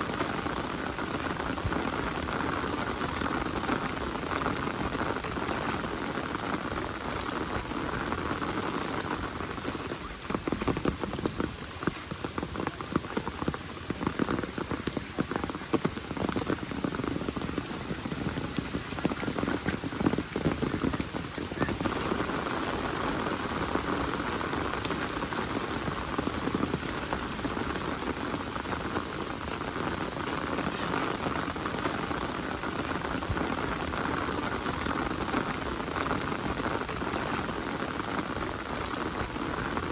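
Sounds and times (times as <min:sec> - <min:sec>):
close raindrop impacts pattering: 0:00.0 - 0:39.9
heavy rain falling: 0:00.0 - 0:39.9.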